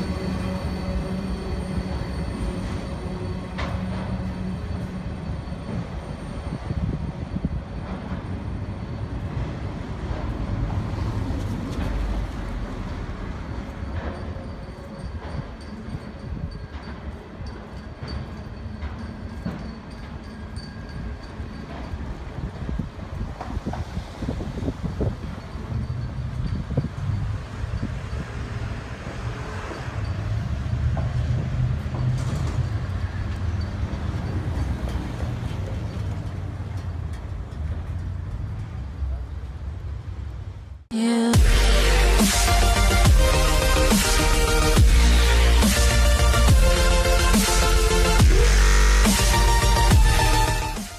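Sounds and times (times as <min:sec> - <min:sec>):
train rumbling past on rails: 0:00.0 - 0:50.9.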